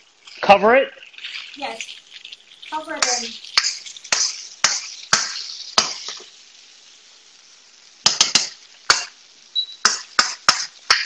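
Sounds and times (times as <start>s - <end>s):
noodles sizzling: 0.0s - 11.0s.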